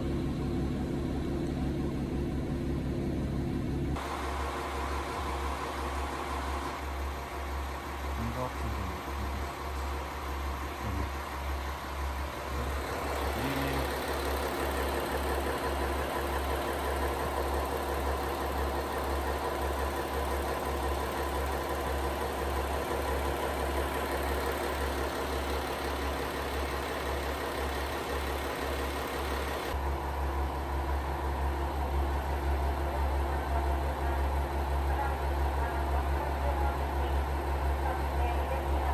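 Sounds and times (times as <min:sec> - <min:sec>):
diesel railcar engine idling: 0:00.0 - 0:38.9.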